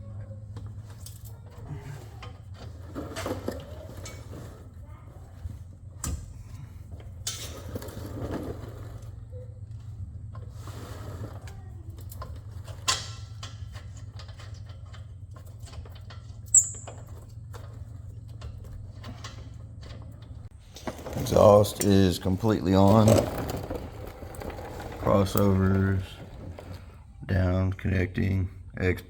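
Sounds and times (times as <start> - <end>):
tools and parts clicking and rustling: 0.2 - 10.5, 11.2 - 27.0.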